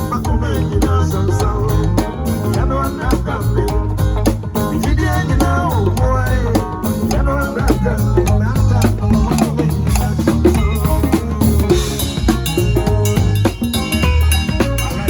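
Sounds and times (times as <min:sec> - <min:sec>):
bass line: 0:00.0 - 0:15.0
drum kit beat: 0:00.0 - 0:15.0
pitch-bending melody line: 0:00.0 - 0:15.0.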